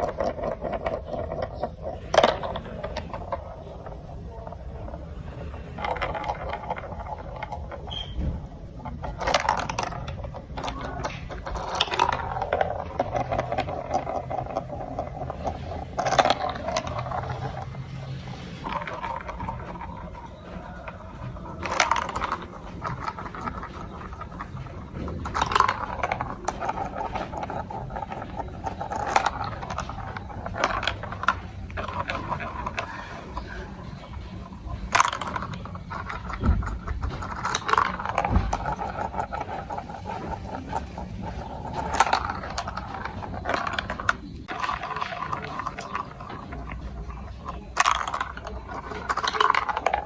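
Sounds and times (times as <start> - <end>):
marbles rattling: 0.0 - 50.0.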